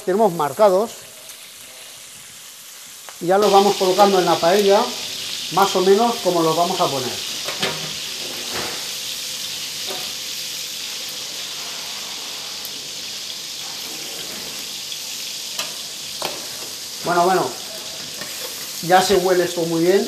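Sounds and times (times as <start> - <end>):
prawns sizzling in oil: 0.0 - 20.0.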